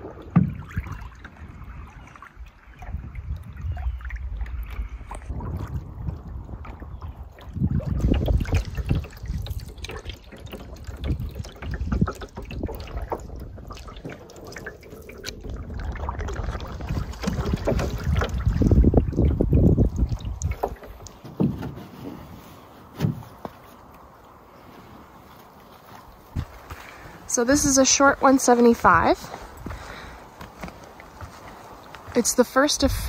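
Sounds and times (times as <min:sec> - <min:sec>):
wind on microphone: 0:00.0 - 0:23.4, 0:26.1 - 0:33.0
water sloshing around a canoe: 0:00.0 - 0:33.0.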